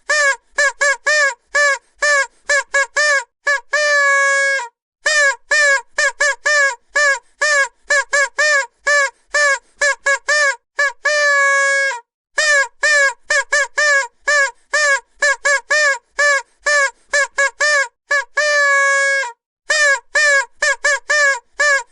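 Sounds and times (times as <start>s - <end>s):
vuvuzela tooting: 0.1s - 21.9s.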